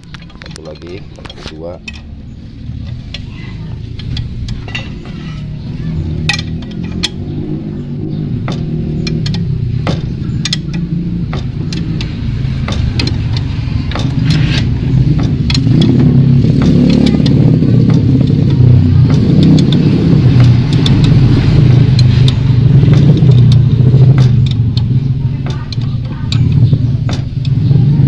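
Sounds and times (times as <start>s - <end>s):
sharp metallic clicks: 0.0s - 28.0s
vehicle engine running: 0.0s - 28.0s.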